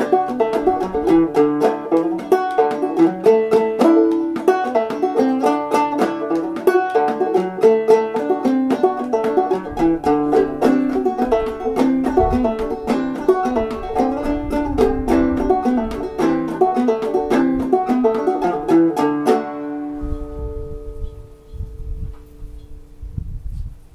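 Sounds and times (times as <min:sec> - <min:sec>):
banjo playing: 0:00.0 - 0:21.0.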